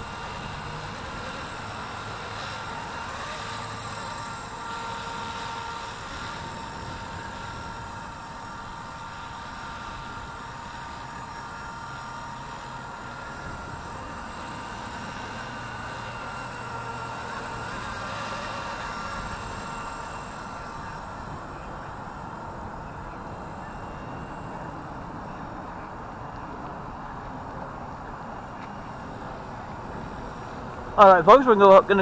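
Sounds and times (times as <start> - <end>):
rc helicopter whine: 0.0 - 32.0.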